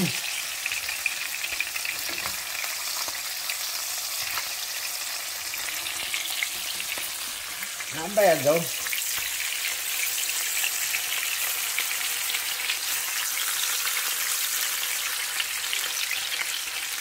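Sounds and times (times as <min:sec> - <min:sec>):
patties sizzling in a skillet: 0:00.0 - 0:17.0.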